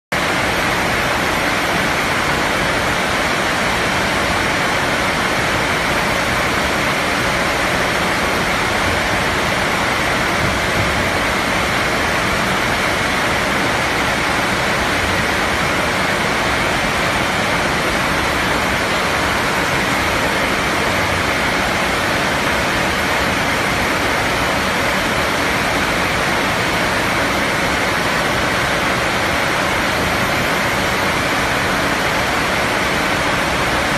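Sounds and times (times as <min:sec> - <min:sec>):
machinery rushing noise: 0:00.2 - 0:33.9.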